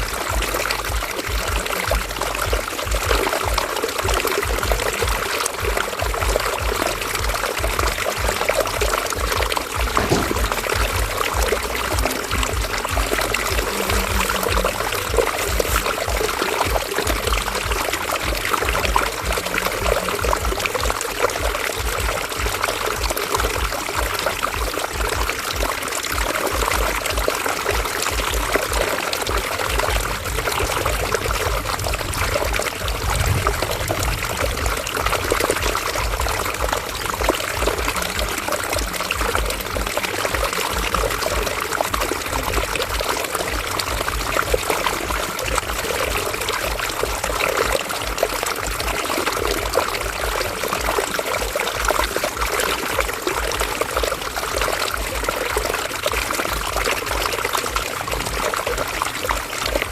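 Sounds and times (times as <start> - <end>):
river water rushing: 6.7 - 59.9.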